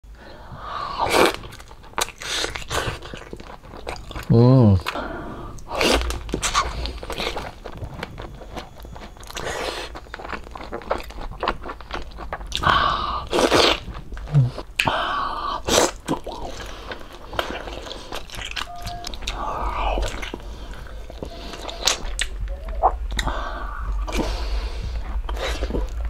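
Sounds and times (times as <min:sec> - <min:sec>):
person chewing and biting: 0:01.0 - 0:15.0, 0:15.6 - 0:26.0.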